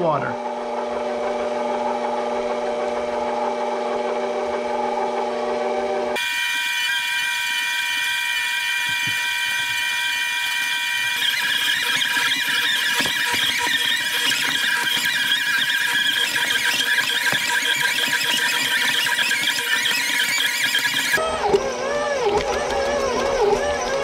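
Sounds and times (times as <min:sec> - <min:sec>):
stand mixer motor running: 0:00.3 - 0:24.0.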